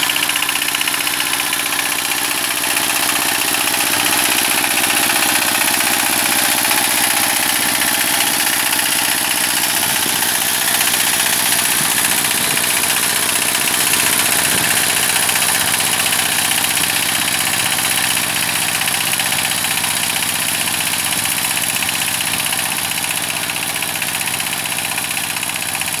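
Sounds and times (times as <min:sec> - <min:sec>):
diesel engine running under load: 0:00.0 - 0:26.0
rotary tiller churning soil: 0:00.0 - 0:26.0.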